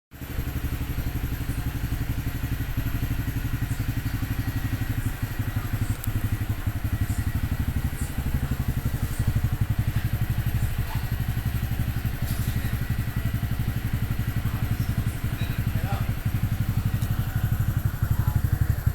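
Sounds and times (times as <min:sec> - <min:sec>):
motorcycle engine idling: 0:00.1 - 0:18.9.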